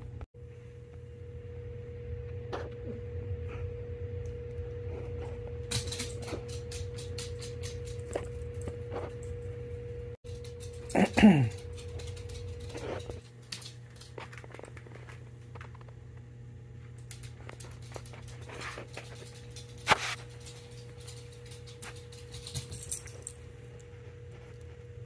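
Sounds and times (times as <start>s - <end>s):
electric hum: 0.0s - 25.0s.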